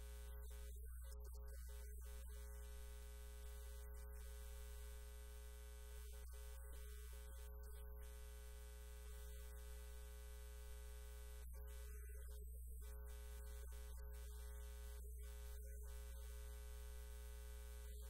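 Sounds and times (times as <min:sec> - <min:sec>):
electrical hum: 0:00.0 - 0:18.0
faint steady tones: 0:00.0 - 0:18.0.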